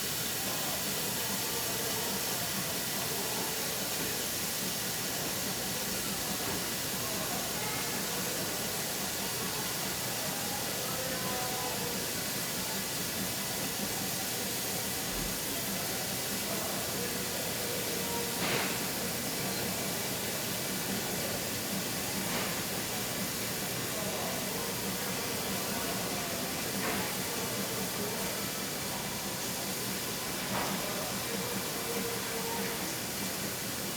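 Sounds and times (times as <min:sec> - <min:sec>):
faint distant voices: 0:00.0 - 0:33.9
steam hissing: 0:00.0 - 0:33.9.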